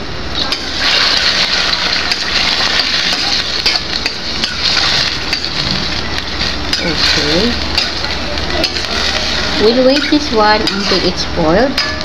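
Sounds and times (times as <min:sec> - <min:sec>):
vegetables sizzling in a pan: 0:00.4 - 0:12.0
metal ladle scraping a pan: 0:00.5 - 0:12.0.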